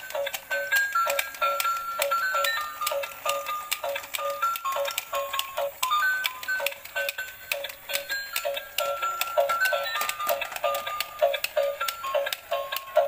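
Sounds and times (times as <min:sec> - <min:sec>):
steady ticking beat: 0:00.0 - 0:13.0
toy beeping electronic melody: 0:00.0 - 0:13.0.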